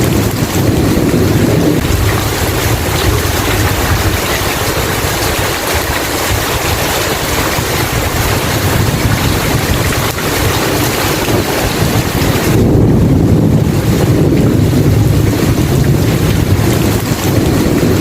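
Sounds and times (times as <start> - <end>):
deep low rumble: 0.0 - 18.0
heavy rain pouring: 0.0 - 18.0.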